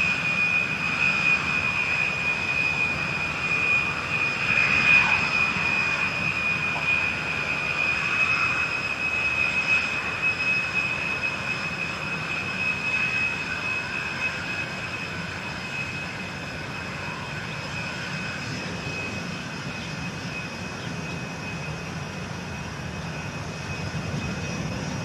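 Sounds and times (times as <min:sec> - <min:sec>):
jet airliner taxiing: 0:00.0 - 0:25.0.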